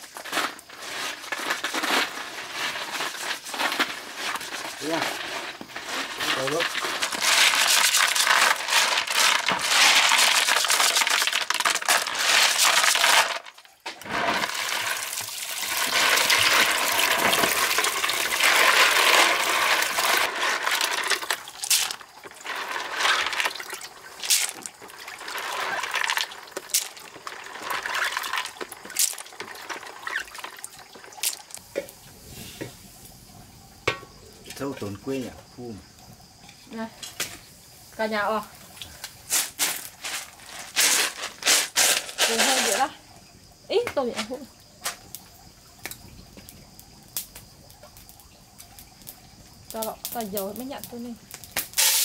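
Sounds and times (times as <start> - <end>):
water running and splashing: 0.0 - 36.0, 36.8 - 52.0.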